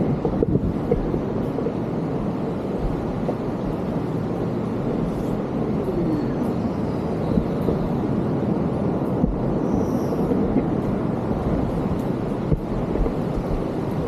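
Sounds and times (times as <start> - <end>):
rushing water roar: 0.0 - 14.0.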